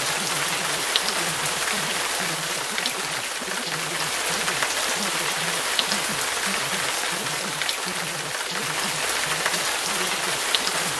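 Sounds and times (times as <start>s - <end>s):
faint low voice murmuring: 0.0s - 10.9s
raindrop ticks: 0.0s - 10.9s
steady rain: 0.0s - 10.9s.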